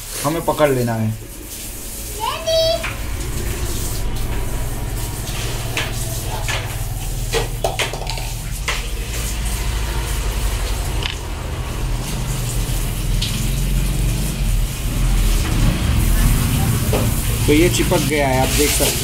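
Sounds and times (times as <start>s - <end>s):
low background hum: 0.0s - 18.5s.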